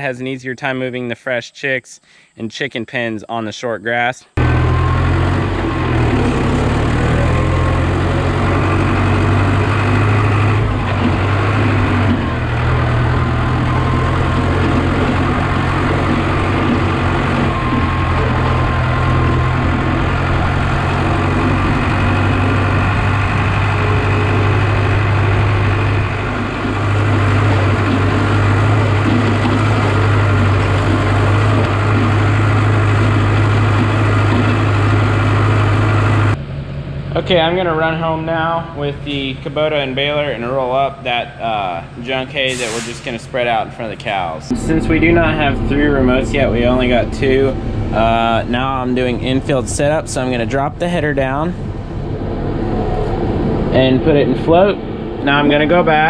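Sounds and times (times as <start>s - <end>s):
tractor diesel engine running: 4.4s - 56.0s.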